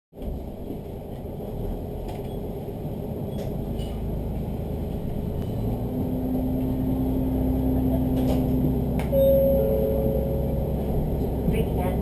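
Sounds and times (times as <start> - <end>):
train engine rumbling: 0.2 - 12.0.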